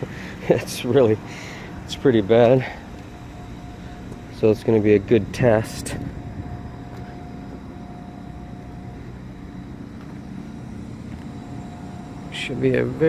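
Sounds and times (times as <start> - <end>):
faint steady hum: 0.0 - 13.0
vehicle engine rumble: 0.0 - 13.0.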